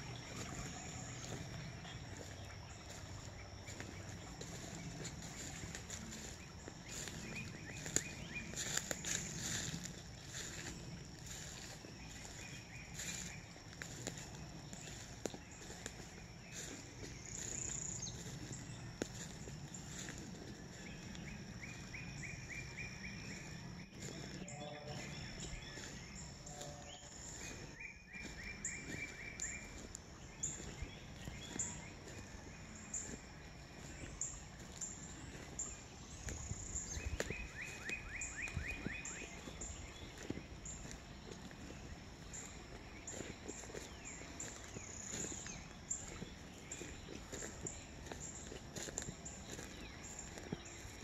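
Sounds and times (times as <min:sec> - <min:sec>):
footsteps on wood chips: 0:00.1 - 0:51.0.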